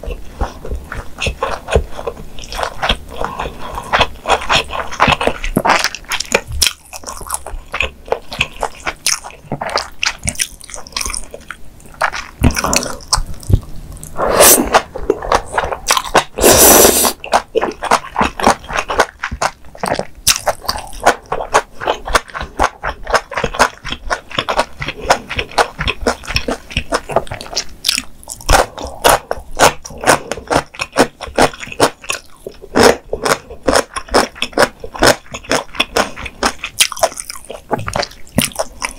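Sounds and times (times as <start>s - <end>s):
wet crunchy chewing: 0.0s - 38.9s.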